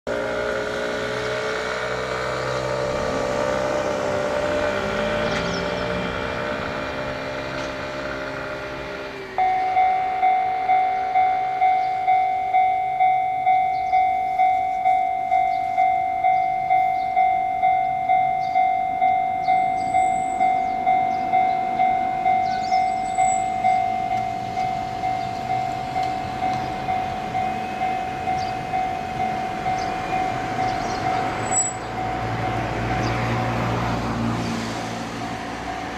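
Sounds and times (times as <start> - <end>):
level crossing warning bell: 1.4 - 35.9.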